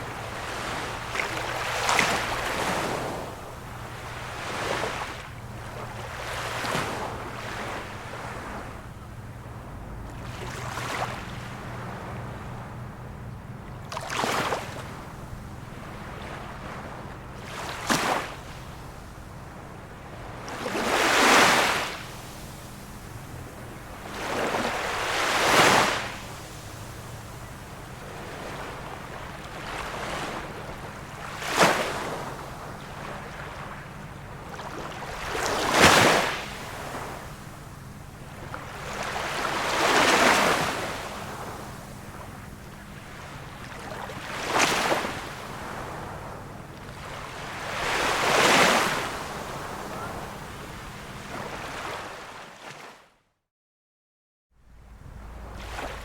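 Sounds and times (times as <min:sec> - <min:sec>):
small sea waves washing in: 0:00.0 - 0:13.1, 0:13.8 - 0:52.9, 0:54.8 - 0:56.0.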